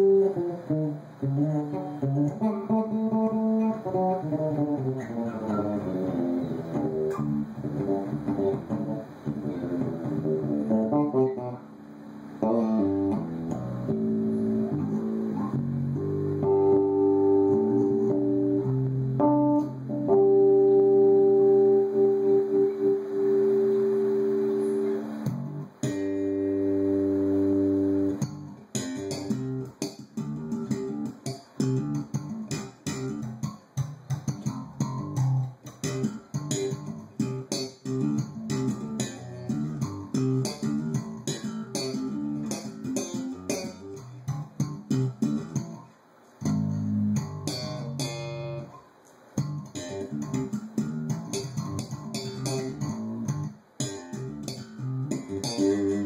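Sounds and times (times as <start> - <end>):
electric bass guitar notes: 0.0 - 48.8, 49.4 - 56.0.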